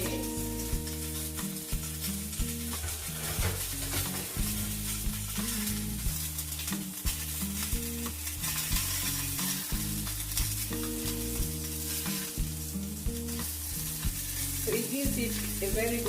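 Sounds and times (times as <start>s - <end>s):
background music with bassline: 0.0s - 16.0s
crackling sizzling hiss: 0.0s - 16.0s.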